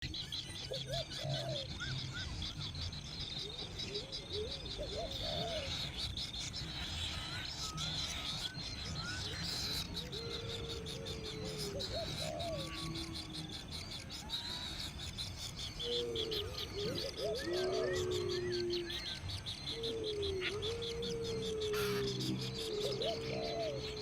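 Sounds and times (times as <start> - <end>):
birds whistling: 0.0 - 24.0.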